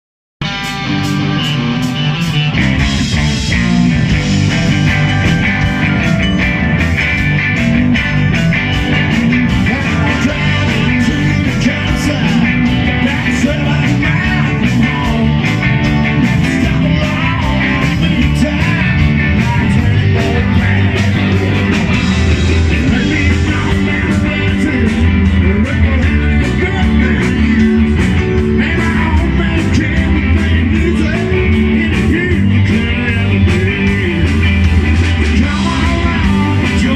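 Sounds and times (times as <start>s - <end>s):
bass guitar: 0.4s - 36.9s
drums playing steady beat: 0.4s - 36.9s
electric guitar: 0.4s - 36.9s.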